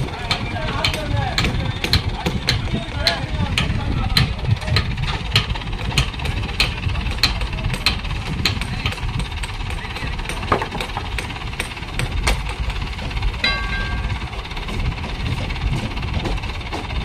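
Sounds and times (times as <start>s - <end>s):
crane engine running low: 0.0s - 17.0s.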